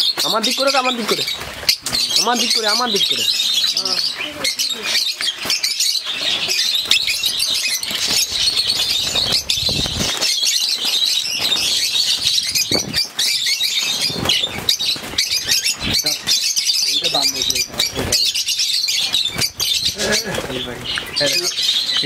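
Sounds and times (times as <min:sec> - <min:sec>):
lovebirds chattering and squawking: 0:00.0 - 0:22.0
wing flutters: 0:00.0 - 0:22.0.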